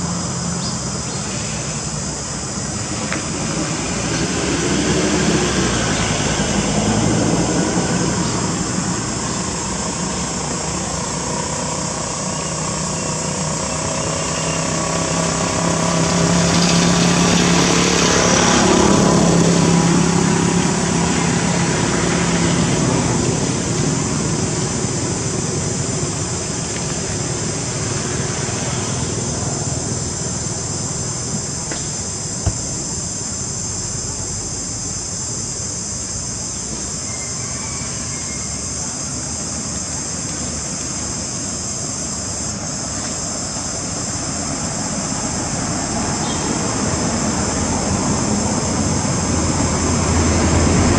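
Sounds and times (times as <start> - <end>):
distant engine drone: 0.0 - 50.9
insects buzzing: 0.0 - 50.9.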